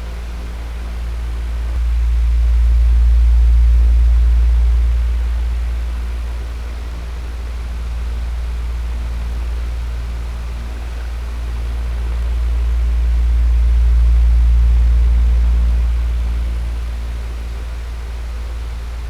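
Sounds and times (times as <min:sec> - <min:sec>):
electric fan air rush: 0:00.0 - 0:19.0
faint steady hum: 0:00.0 - 0:19.0.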